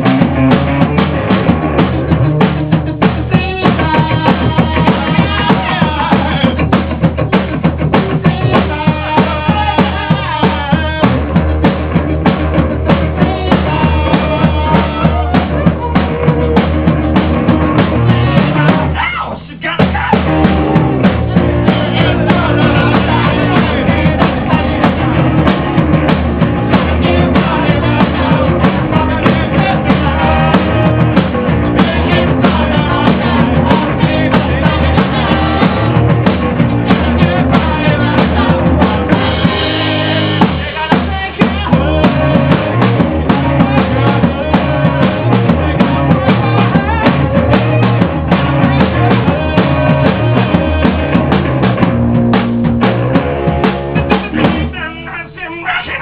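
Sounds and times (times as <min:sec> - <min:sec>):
drum kit beat: 0:00.0 - 0:56.0
rock band playing live: 0:00.0 - 0:56.0.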